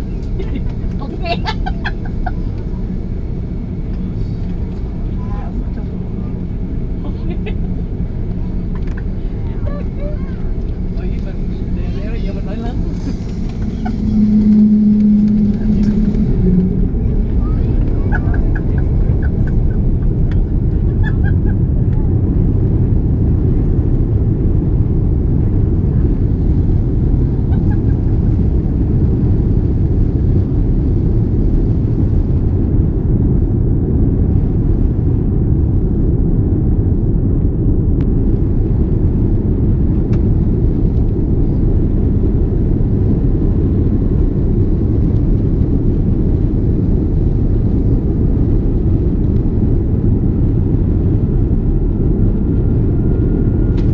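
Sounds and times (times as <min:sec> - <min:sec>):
jet engine rumble in cabin: 0:00.0 - 0:53.9.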